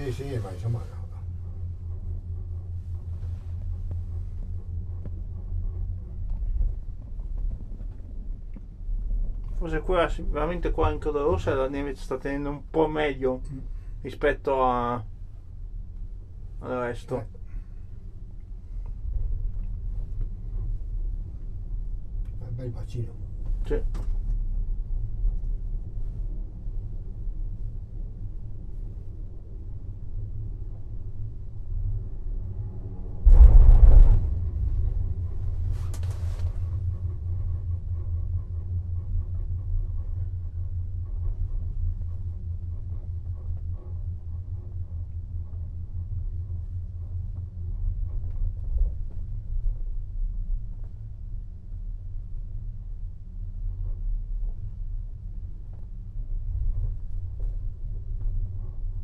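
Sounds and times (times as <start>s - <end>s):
gondola cabin low rumble: 0.0s - 59.0s.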